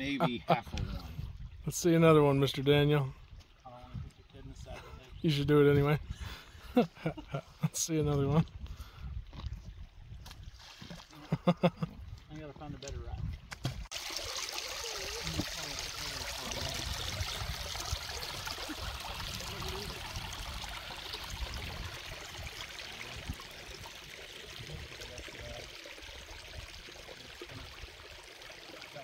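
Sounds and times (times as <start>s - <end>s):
creek trickling over rocks: 0.0s - 29.0s.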